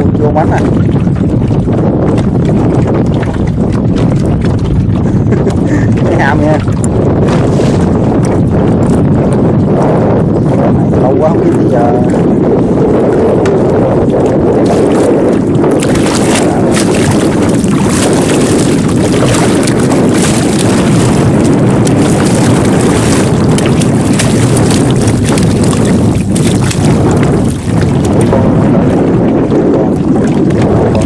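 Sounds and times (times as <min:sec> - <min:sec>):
water sloshing: 0:00.0 - 0:09.4, 0:13.4 - 0:29.0, 0:29.9 - 0:31.0
fish splashing and thrashing: 0:00.0 - 0:31.0
wind on microphone: 0:00.0 - 0:31.0.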